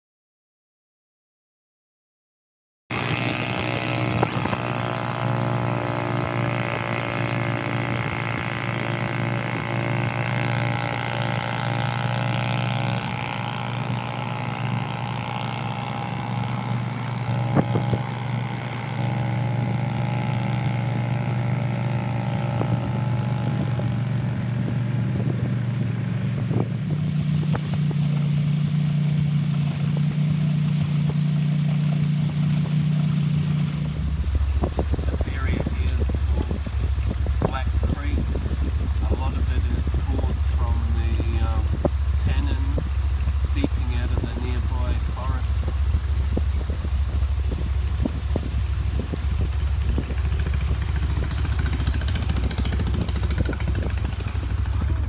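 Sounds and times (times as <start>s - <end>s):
motorboat engine running: 2.9s - 55.0s
water rushing past hull: 2.9s - 55.0s.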